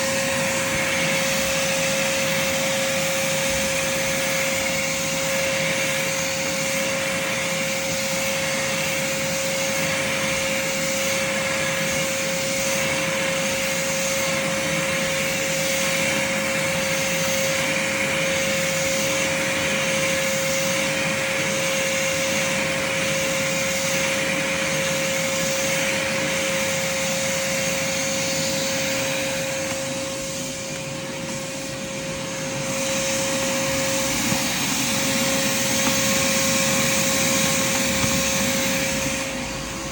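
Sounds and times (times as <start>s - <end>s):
shop vacuum motor whine: 0.0s - 39.9s.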